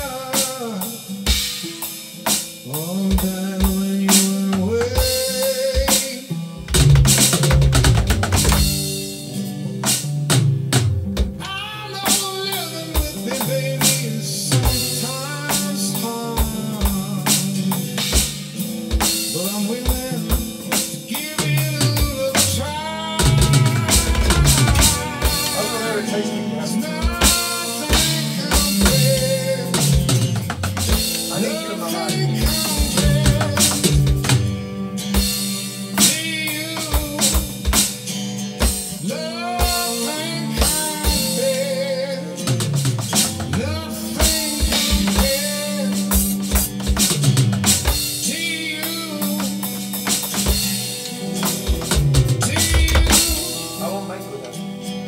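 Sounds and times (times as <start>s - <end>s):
man singing: 0.0s - 7.4s, 11.4s - 55.0s
acoustic guitars: 0.0s - 55.0s
drum kit steady beat: 0.0s - 55.0s.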